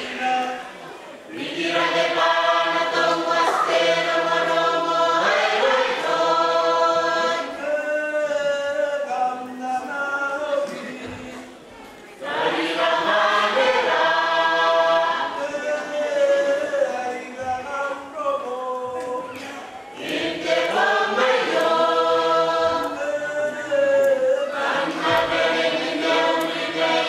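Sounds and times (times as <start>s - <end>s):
group singing in chorus: 0.0s - 11.4s, 12.2s - 27.0s.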